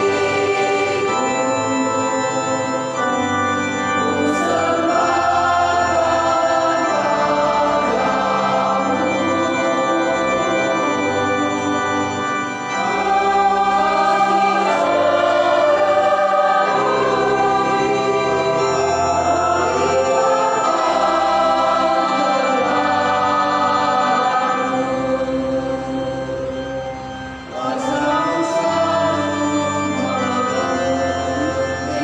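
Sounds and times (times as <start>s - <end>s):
choir singing a hymn: 0.0s - 32.0s
organ chords: 0.0s - 32.0s.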